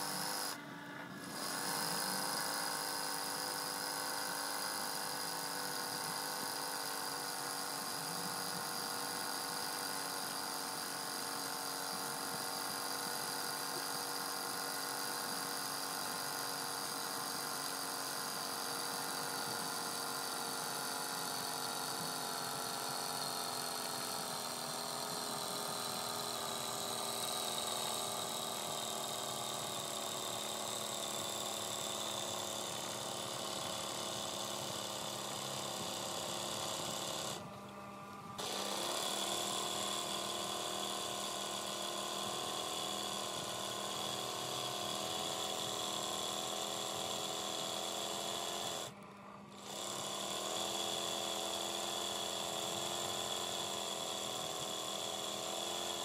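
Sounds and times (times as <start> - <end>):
sewing machine running: 0.0 - 0.6, 1.2 - 37.4, 38.4 - 48.9, 49.5 - 56.0.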